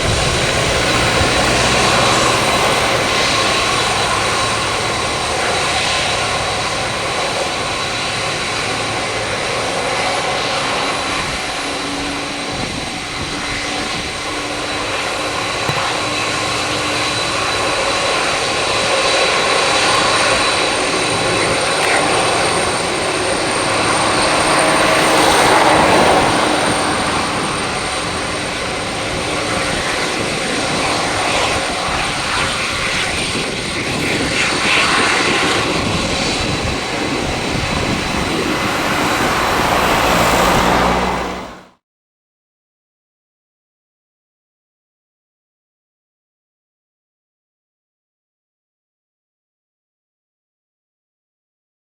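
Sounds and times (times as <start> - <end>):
jet engines running: 0.0 - 41.8.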